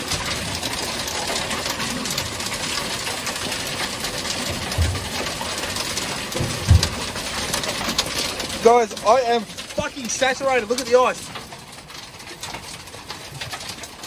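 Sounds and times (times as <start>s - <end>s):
hail rattling on boat deck: 0.0s - 14.0s.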